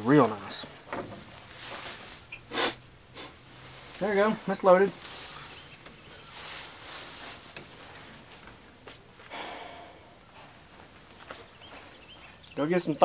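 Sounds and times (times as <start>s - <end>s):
high-pitched insect trill: 0.0s - 13.0s
rustle: 0.0s - 13.0s
light clicks and shuffles: 0.1s - 2.4s, 3.2s - 9.4s, 10.3s - 12.7s.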